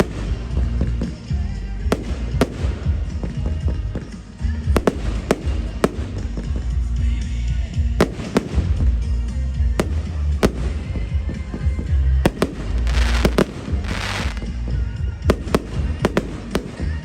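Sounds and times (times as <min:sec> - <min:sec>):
fireworks bursting: 0:00.0 - 0:17.0
fireworks crackling: 0:00.0 - 0:17.0
music with heavy bass: 0:00.0 - 0:17.0.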